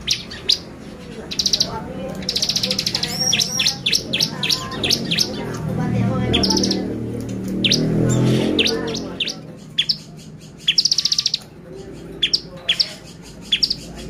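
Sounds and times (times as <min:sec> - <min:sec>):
bird singing rapid chirps: 0:00.0 - 0:14.0.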